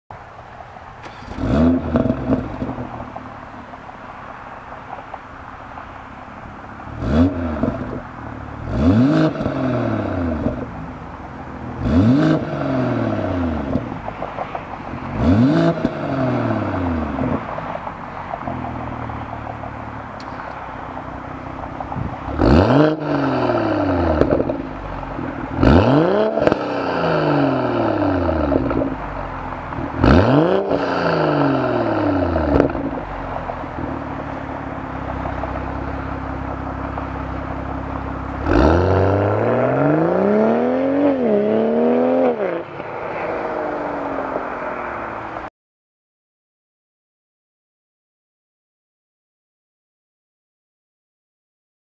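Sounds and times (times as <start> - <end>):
car engine idling and revving: 0.1 - 45.5.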